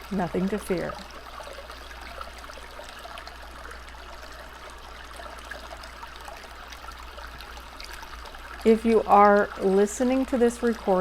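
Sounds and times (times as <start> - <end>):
babbling stream: 0.0 - 11.0.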